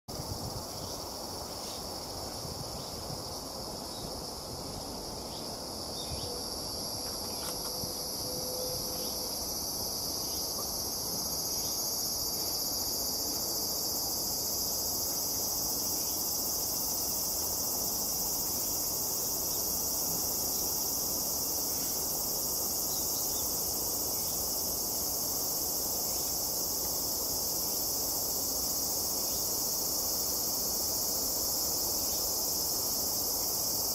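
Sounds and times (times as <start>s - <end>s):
insects chorus: 0.1s - 33.9s.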